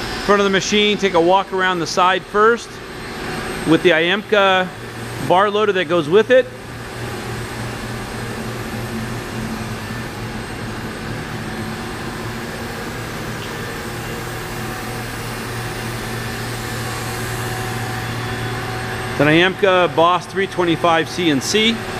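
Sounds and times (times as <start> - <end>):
low motor drone: 0.0 - 21.9.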